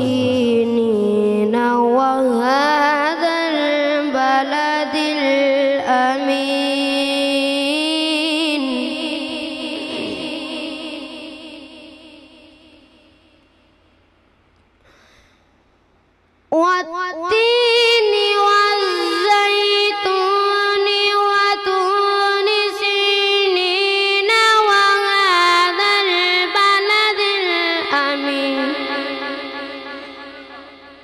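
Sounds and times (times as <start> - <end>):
boy reciting melodically: 0.0 - 13.3, 16.5 - 31.0.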